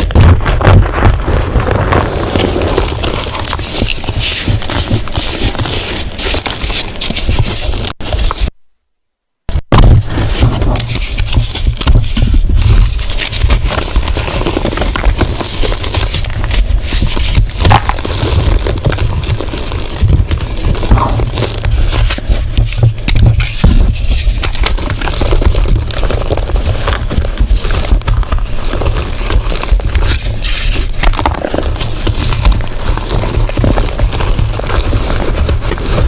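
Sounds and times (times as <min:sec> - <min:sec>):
chalk crunching and crackling: 0:00.0 - 0:08.5, 0:09.8 - 0:36.0.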